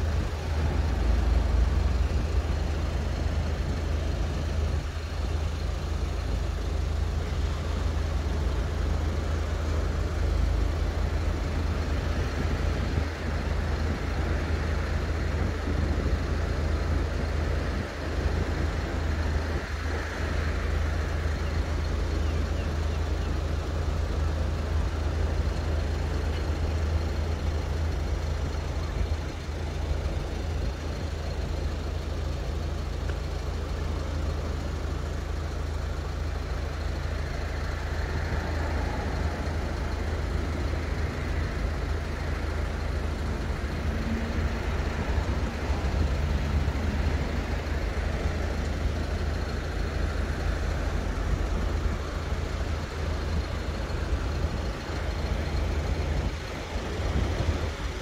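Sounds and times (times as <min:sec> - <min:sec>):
steady low rumble: 0:00.0 - 0:58.0.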